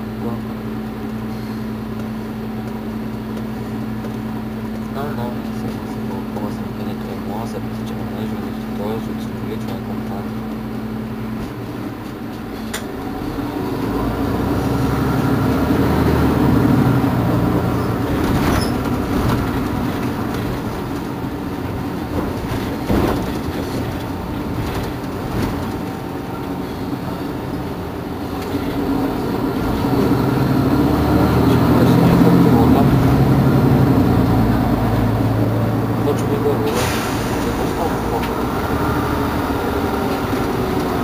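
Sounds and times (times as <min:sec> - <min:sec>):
bus engine humming: 0:00.0 - 0:41.0.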